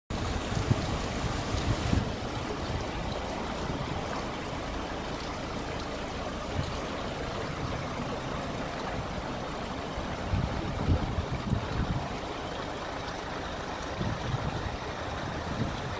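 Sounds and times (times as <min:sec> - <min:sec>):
rainwater rushing along street: 0:00.1 - 0:15.9.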